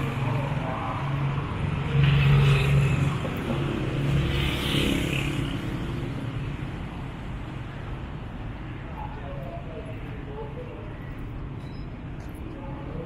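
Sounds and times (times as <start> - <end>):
vehicle engines humming: 0.0 - 13.0.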